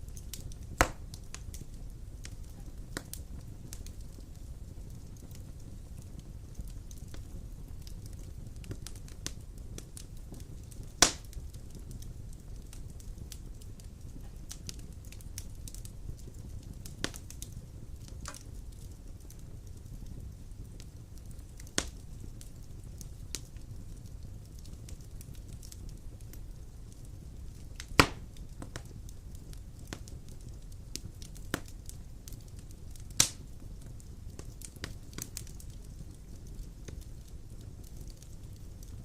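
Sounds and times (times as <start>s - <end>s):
fire crackling and popping: 0.0s - 39.0s
fire rumbling: 0.0s - 39.0s.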